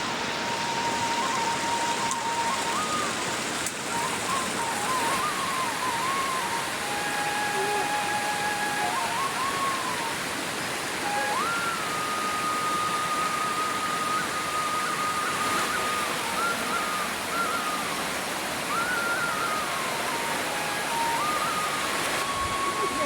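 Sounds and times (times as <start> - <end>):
faint slow melody: 0.0 - 23.0
rushing stream: 0.0 - 23.0.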